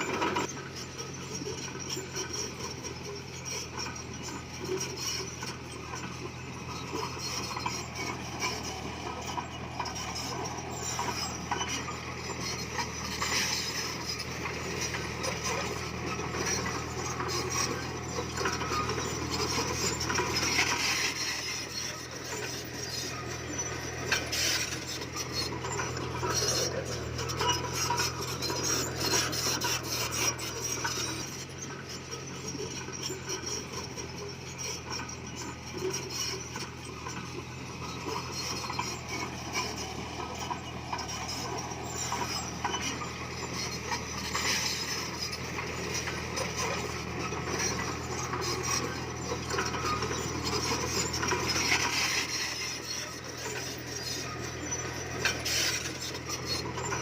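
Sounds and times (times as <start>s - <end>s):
diesel engine hum: 0.0s - 57.0s
steel tracks clanking: 0.0s - 57.0s.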